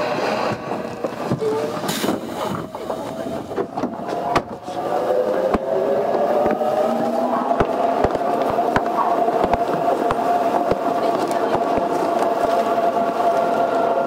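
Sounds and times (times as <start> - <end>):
rising whine: 0.0 - 14.0
wheel and rail noise: 0.0 - 14.0.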